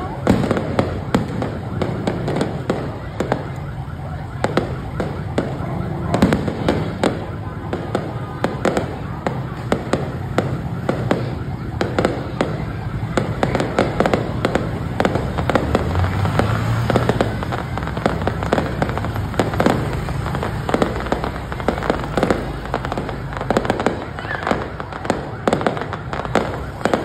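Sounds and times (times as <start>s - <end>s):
fireworks crackling pops: 0.0s - 27.0s.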